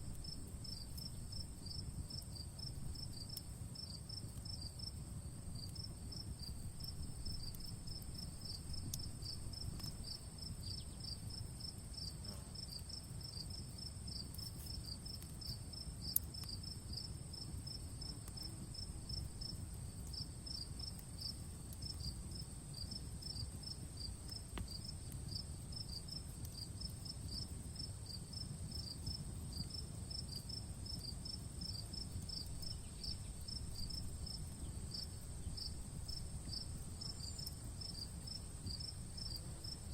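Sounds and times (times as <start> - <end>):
wood fire crackling: 0.0 - 39.9
crickets chirping: 0.1 - 39.9
high insect trill: 5.6 - 39.9.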